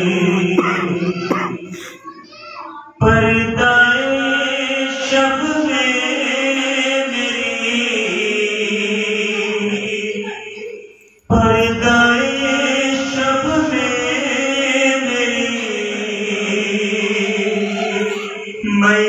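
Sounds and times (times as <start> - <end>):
man chanting into a microphone: 0.0 - 1.7, 3.0 - 10.2, 11.3 - 19.0.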